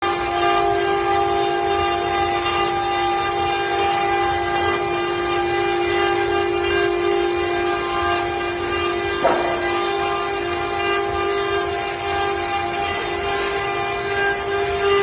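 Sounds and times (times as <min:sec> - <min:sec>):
router spindle whine: 0:00.0 - 0:15.0.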